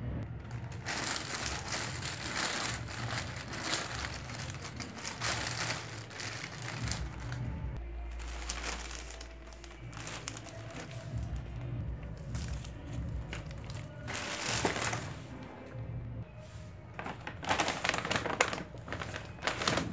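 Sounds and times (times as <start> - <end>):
plastic bag crinkling: 0.3 - 15.6, 16.8 - 19.9
packets shifting in plastic bag: 0.3 - 15.7, 16.4 - 19.9.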